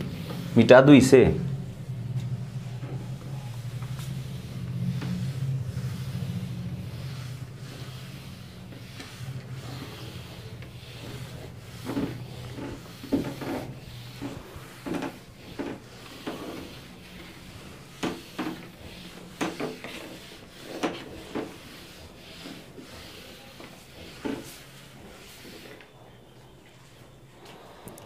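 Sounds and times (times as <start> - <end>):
duster wiping whiteboard: 0.0 - 27.6.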